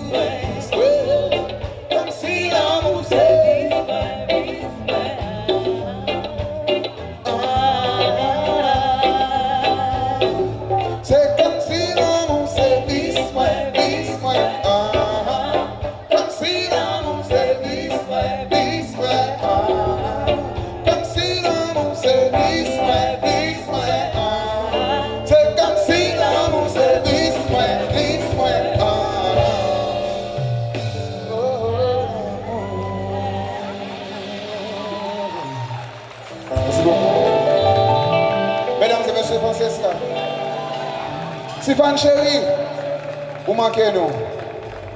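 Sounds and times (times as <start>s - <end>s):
bass line: 0.0s - 35.7s, 36.3s - 44.9s
person singing: 0.0s - 41.7s
live band music: 0.0s - 44.9s.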